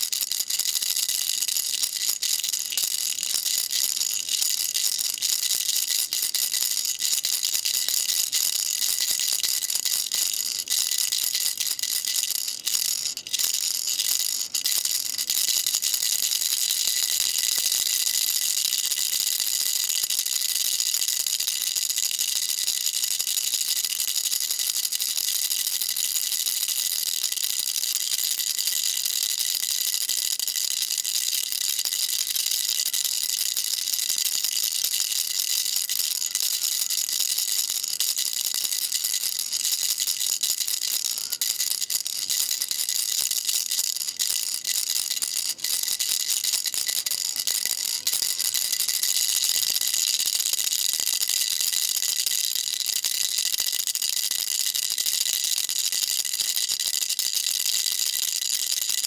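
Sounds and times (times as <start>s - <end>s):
baby rattle shaking: 0.0s - 59.0s.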